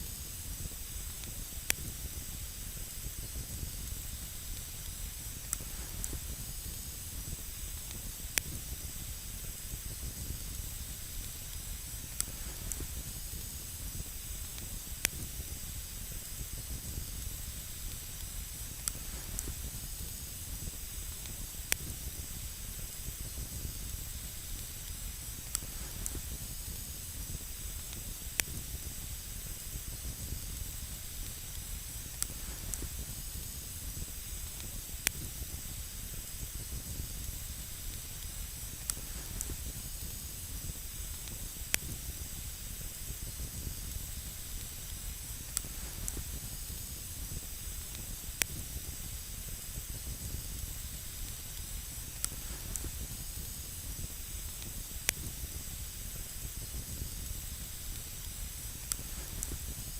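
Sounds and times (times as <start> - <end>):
campfire crackling and popping: 0.0 - 59.9
fire hissing: 0.0 - 59.9.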